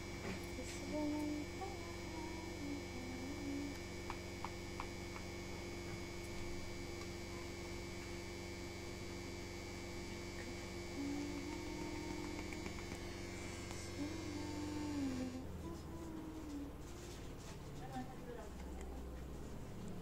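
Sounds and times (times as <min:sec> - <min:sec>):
thin high whine: 0:00.0 - 0:17.3
electrical hum: 0:00.0 - 0:20.0.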